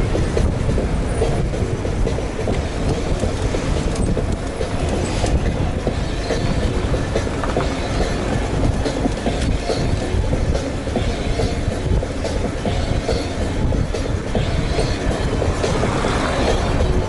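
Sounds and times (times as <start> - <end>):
bicycle rumbling and rattling: 0.0 - 17.0
wind noise on microphone: 0.0 - 17.0.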